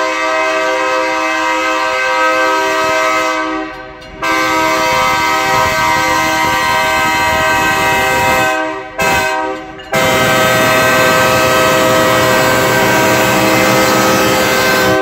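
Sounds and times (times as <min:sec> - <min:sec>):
locomotive air horn blasts: 0:00.0 - 0:15.0.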